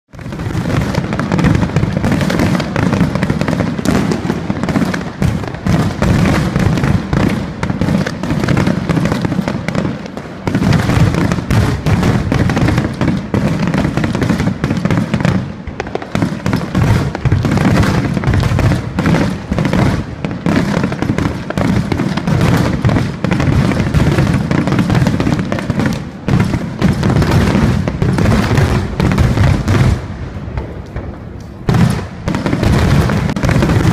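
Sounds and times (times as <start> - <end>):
fireworks booming: 0.1 - 33.9
fireworks crackle: 0.1 - 33.9.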